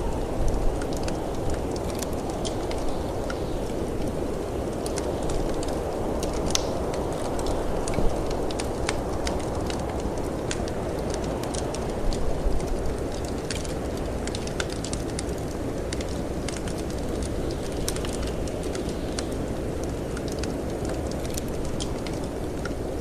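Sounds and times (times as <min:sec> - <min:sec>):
low rush of wind: 0:00.0 - 0:23.0
wood fire crackling and popping: 0:00.0 - 0:23.0.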